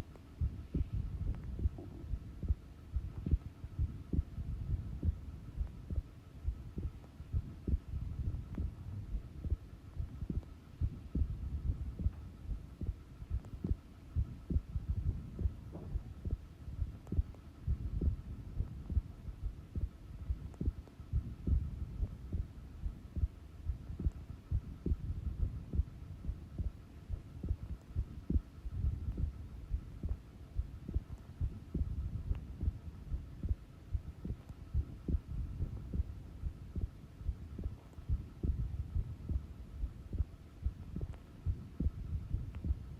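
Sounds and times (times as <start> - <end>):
faint steady hum: 0.0 - 42.9
heart beating slowly: 0.0 - 42.9.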